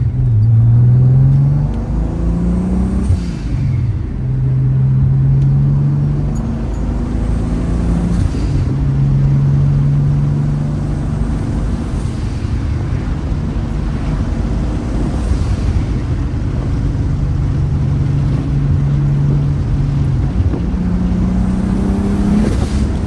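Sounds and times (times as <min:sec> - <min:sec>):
car engine and exhaust: 0:00.0 - 0:23.0.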